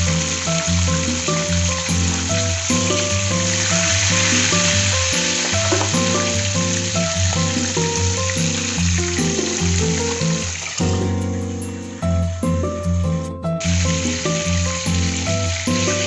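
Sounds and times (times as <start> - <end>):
background music: 0.0 - 16.0
food sizzling in hot oil: 0.0 - 16.0.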